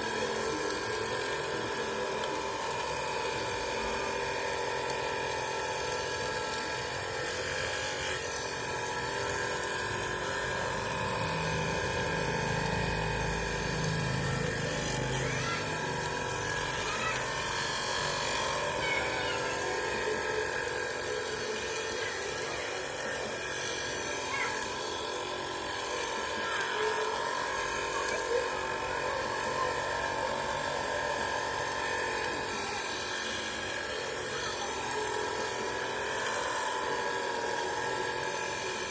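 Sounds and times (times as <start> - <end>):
electric power tool whining: 0.0 - 38.9.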